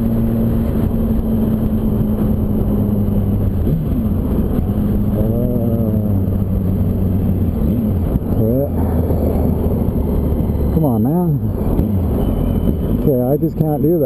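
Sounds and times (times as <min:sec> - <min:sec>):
motorcycle engines droning: 0:00.0 - 0:14.0.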